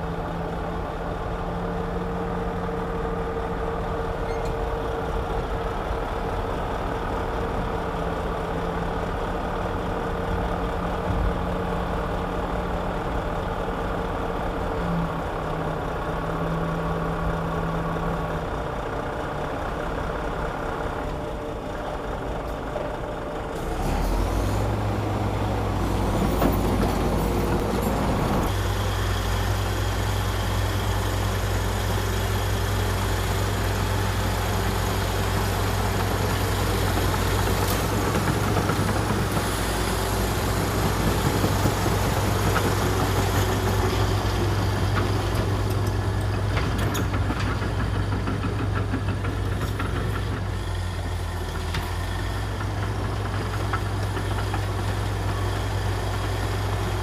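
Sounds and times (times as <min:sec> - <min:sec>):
deeper engine: 0:00.0 - 0:57.0
diesel machinery running: 0:00.0 - 0:57.0.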